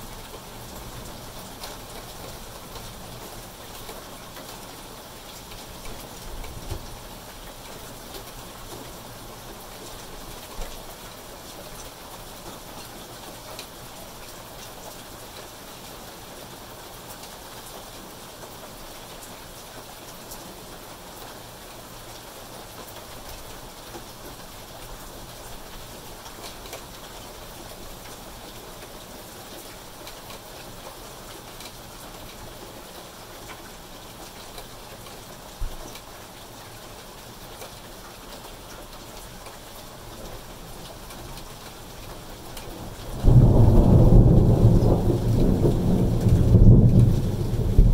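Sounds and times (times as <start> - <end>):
steady rain on foliage: 0.0 - 47.9.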